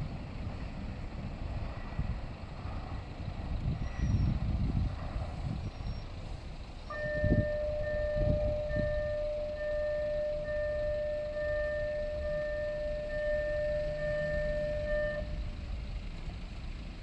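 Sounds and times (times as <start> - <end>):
road traffic: 0.0 - 17.0
wind rumbling: 0.0 - 17.0.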